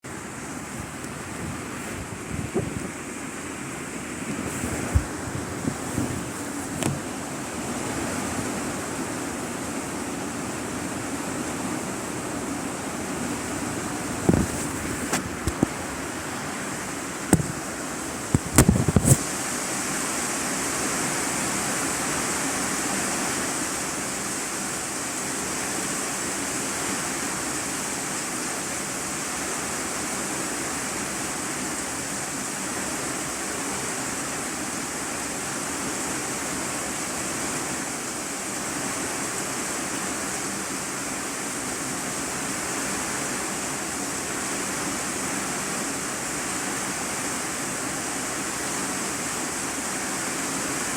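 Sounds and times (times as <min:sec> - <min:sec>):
rain drumming on a metal roof: 0:02.2 - 0:49.4.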